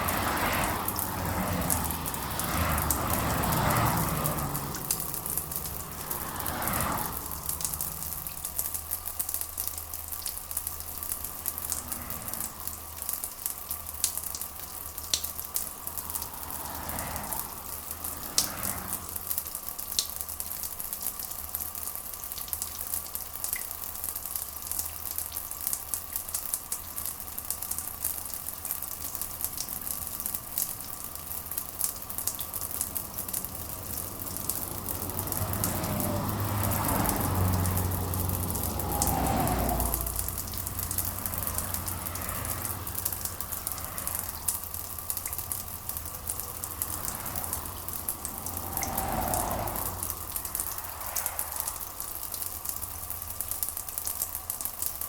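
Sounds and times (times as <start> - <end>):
steady rain on surface: 0.0 - 55.0.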